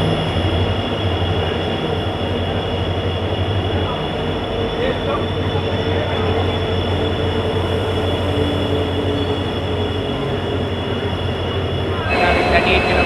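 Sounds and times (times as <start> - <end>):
train running on track: 0.0 - 13.0.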